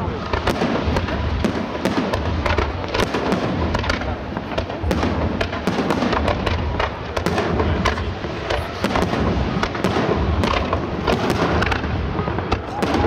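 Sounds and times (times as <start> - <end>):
fireworks crackling: 0.0 - 13.0
fireworks shells bursting: 0.0 - 13.0.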